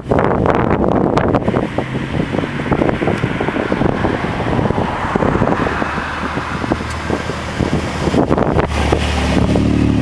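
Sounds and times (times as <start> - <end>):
wind buffeting microphone: 0.0 - 10.0
car engine driving by: 1.1 - 10.0.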